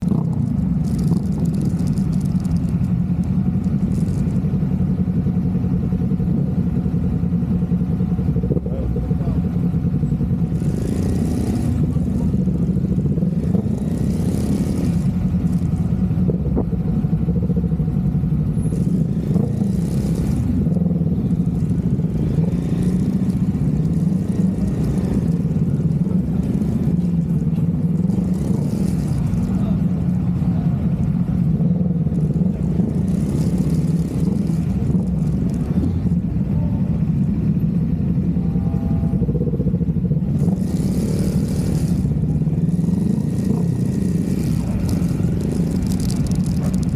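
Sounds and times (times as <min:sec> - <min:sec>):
motorcycle engine droning: 0:00.0 - 0:46.9.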